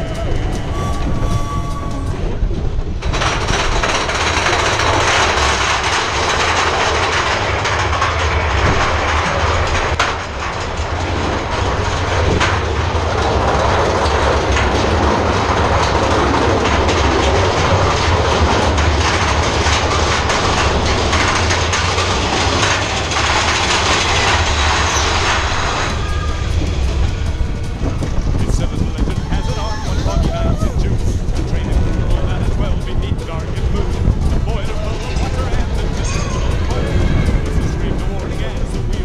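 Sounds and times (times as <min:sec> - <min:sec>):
ride vehicle rumbling on track: 0:00.0 - 0:39.0.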